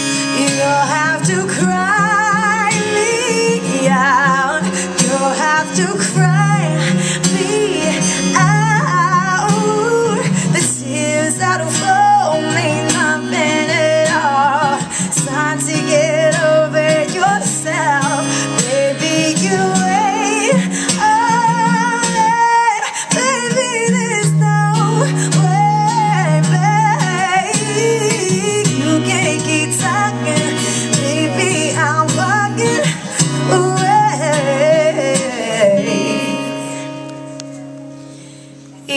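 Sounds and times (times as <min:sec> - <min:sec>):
woman singing into microphone: 0:00.0 - 0:37.7
acoustic guitar: 0:00.0 - 0:38.9.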